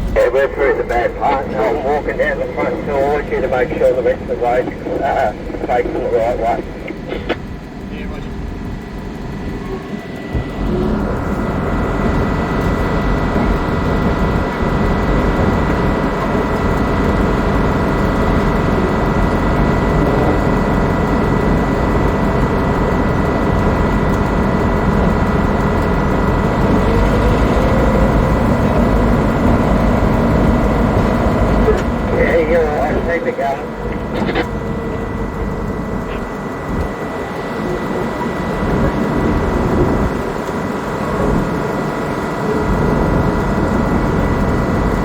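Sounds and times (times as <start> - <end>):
high whine: 0.0 - 45.0
locomotive diesel engine running: 0.0 - 45.0.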